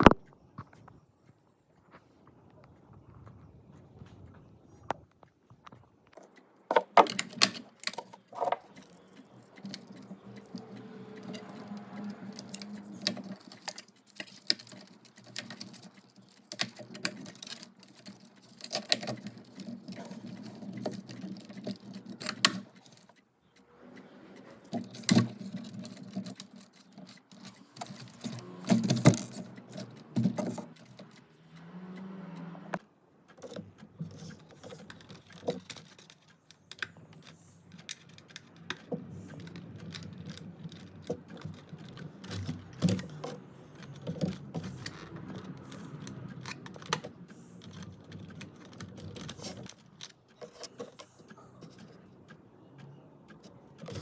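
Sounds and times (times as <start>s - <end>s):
plastic clicks and knocks: 4.9s - 23.2s, 24.6s - 31.4s, 33.3s - 52.0s.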